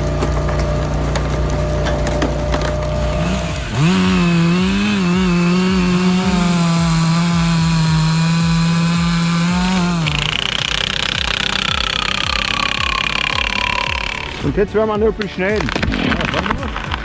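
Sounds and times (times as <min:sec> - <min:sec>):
chainsaw cutting wood: 0:00.0 - 0:17.0
wood cracking: 0:00.0 - 0:17.0.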